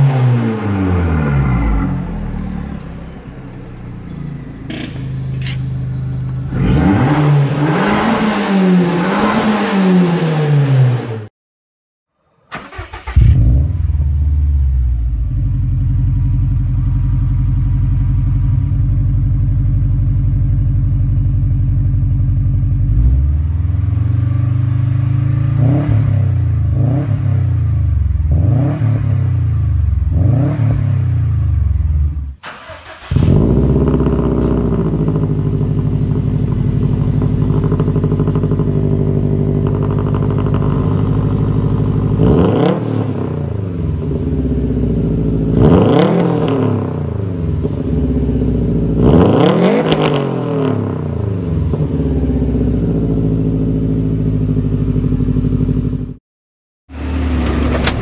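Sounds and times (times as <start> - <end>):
car engine revving and idling: 0.0 - 11.3, 12.5 - 56.2.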